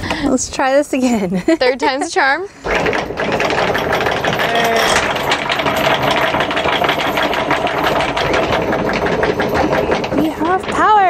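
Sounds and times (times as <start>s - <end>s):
anchor chain clattering: 1.8s - 11.0s.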